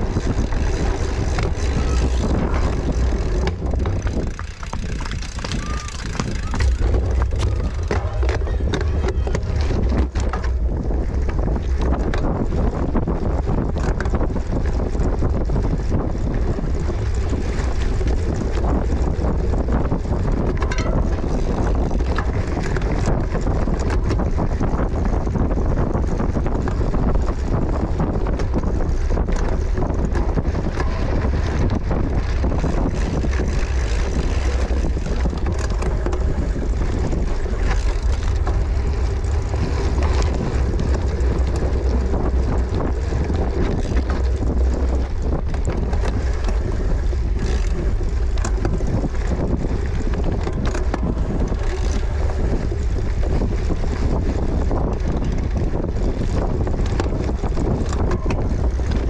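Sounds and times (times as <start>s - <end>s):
small rattles and knocks: 0.0s - 59.0s
wind buffeting microphone: 0.0s - 59.0s.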